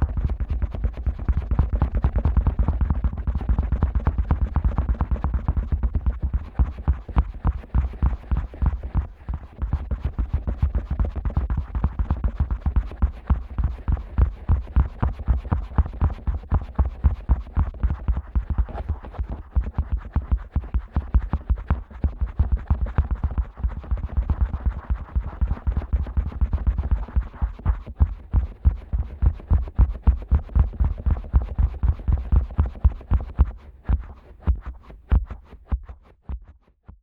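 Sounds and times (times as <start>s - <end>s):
fingers rubbing microphone: 0.0s - 36.7s.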